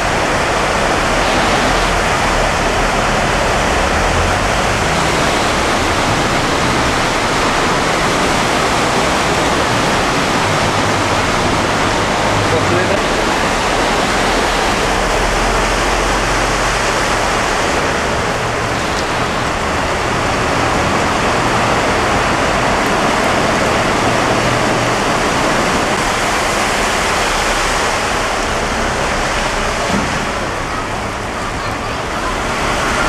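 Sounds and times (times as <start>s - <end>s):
cars driving through water: 0.0s - 33.0s
floodwater rushing: 0.0s - 33.0s.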